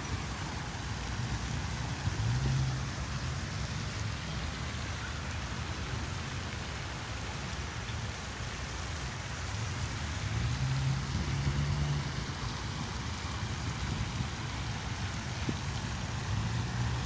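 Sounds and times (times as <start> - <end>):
fountain spray splashing on water: 0.0 - 17.0.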